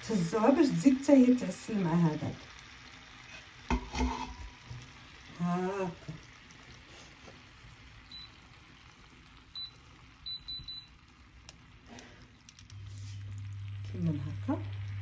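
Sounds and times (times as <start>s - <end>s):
fruit sizzling in a frying pan: 0.0s - 15.0s.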